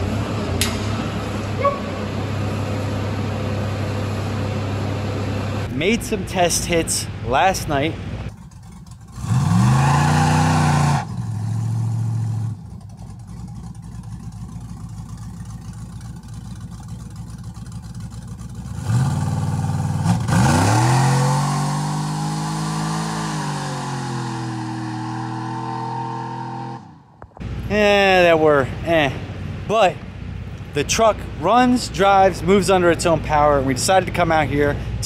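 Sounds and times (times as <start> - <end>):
vee eight engine revving: 0.0 - 12.7, 18.6 - 35.0.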